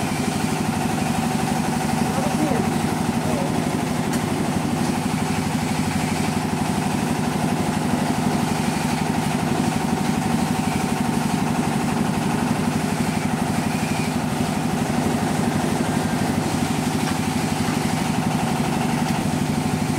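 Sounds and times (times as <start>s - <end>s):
grinding mill grinding: 0.0s - 19.9s
small engine running steadily: 0.0s - 19.9s.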